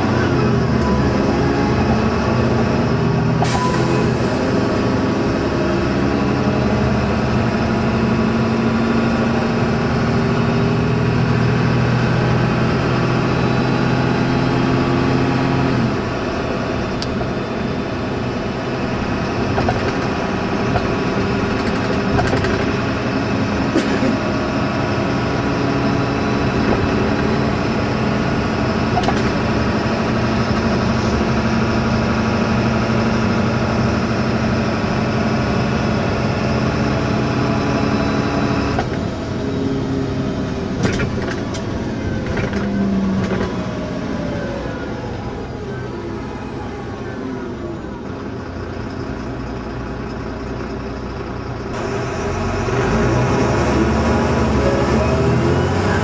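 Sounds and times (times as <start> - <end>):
bus diesel engine running: 0.0 - 56.0
road and drive noise: 0.0 - 56.0.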